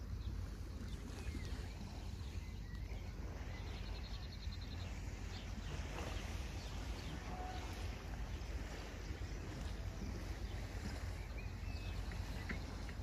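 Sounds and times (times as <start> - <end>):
sea ambience: 0.0 - 13.0.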